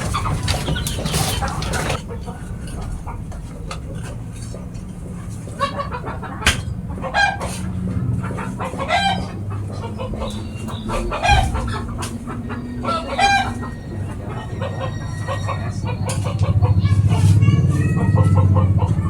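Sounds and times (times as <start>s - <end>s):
chicken clucking: 0.0s - 19.0s
steady low hum: 0.0s - 19.0s.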